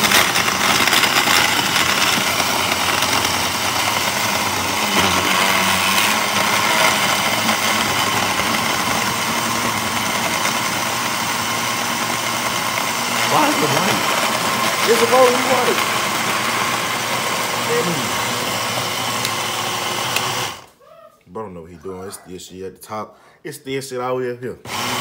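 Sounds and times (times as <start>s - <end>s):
blender motor running: 0.0s - 20.7s, 24.7s - 25.0s.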